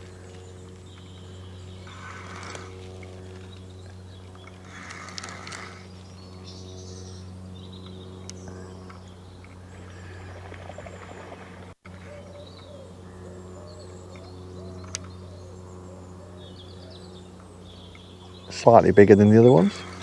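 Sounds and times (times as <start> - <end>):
faint bird calls: 0.0 - 20.0
steady low hum: 0.0 - 20.0.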